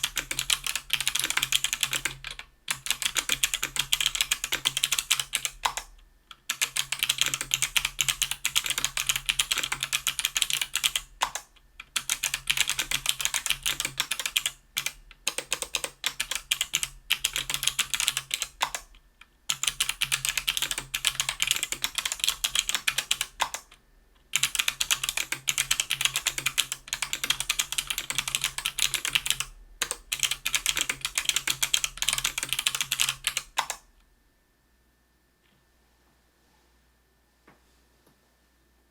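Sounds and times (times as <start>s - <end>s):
clicky keyboard typing: 0.0s - 23.8s, 24.4s - 33.8s.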